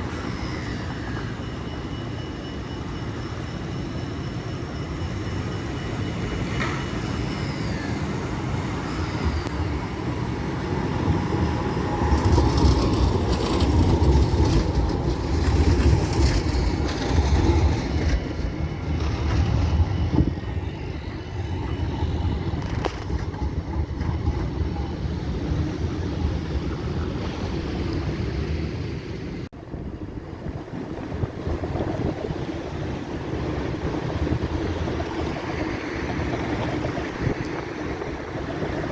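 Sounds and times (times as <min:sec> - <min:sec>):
tram rumbling on rails: 0:00.0 - 0:38.9.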